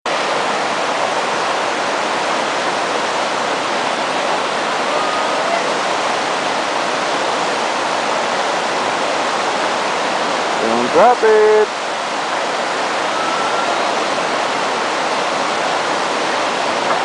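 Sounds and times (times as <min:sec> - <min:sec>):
river rushing: 0:00.1 - 0:17.0.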